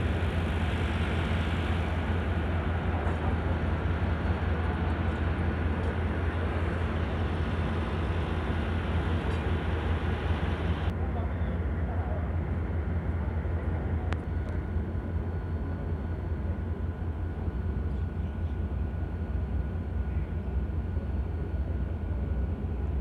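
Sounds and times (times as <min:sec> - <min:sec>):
passenger train hum and rumble: 0:00.0 - 0:23.0.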